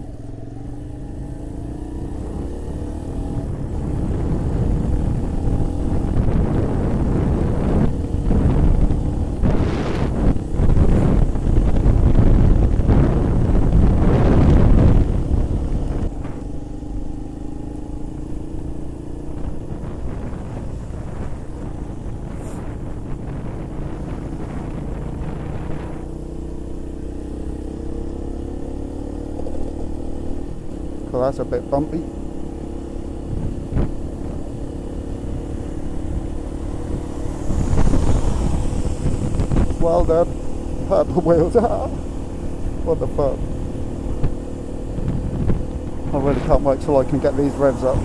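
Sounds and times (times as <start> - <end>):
motorcycle engine running: 0.0 - 48.0
wind rushing over microphone: 0.0 - 48.0.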